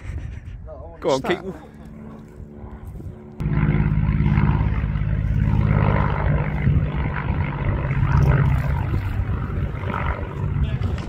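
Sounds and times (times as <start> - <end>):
engine humming steadily: 0.9 - 11.0.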